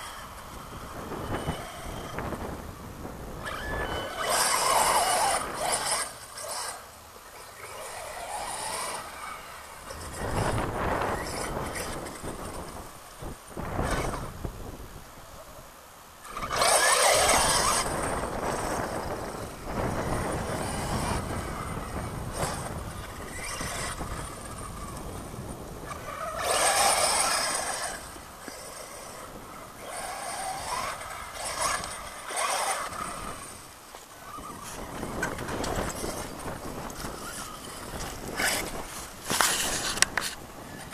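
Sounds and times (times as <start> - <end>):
electric motor whining: 0.0 - 15.1, 16.2 - 40.9
tyres churning sand: 0.0 - 40.9.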